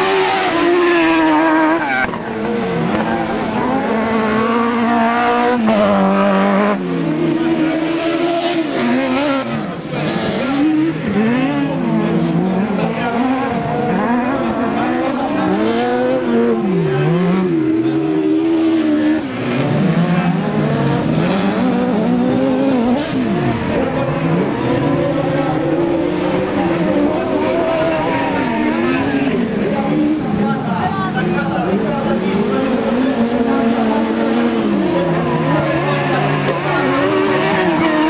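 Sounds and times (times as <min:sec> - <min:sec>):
racing engines revving: 0:00.0 - 0:38.0.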